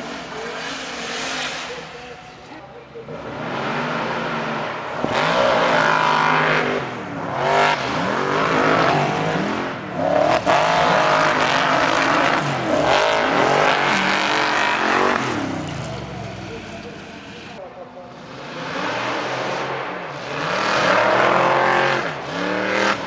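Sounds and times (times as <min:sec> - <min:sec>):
buggy engines revving: 0:00.0 - 0:23.0.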